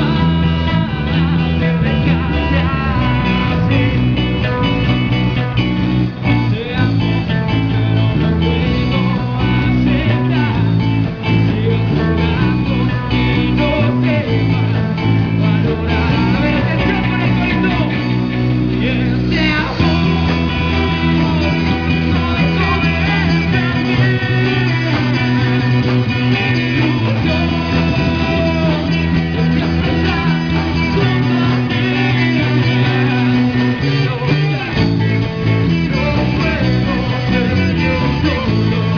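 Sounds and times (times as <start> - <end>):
man singing: 0.0 - 38.9
rock band playing: 0.0 - 38.9.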